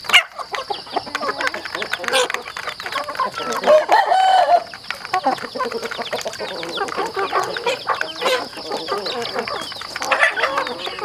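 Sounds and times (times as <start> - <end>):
beaks tapping on feed trough: 0.0 - 11.0
chickens clucking: 0.0 - 11.0
chicken drawn-out call: 0.1 - 11.0.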